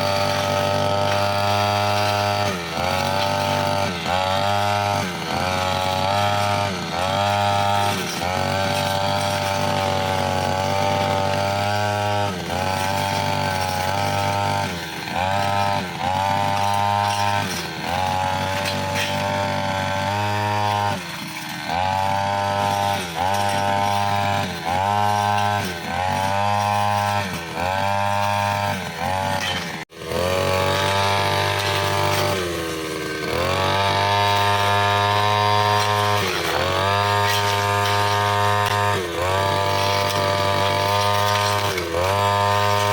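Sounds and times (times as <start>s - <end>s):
brushcutter cutting grass: 0.0s - 42.9s.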